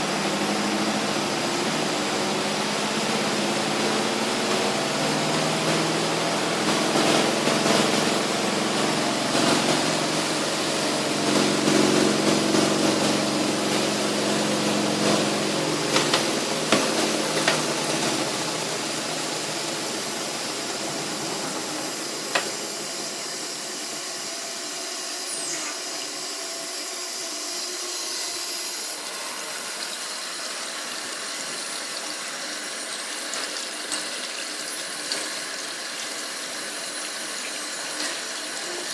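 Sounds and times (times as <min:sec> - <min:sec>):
washing machine motor humming: 0:00.0 - 0:38.9.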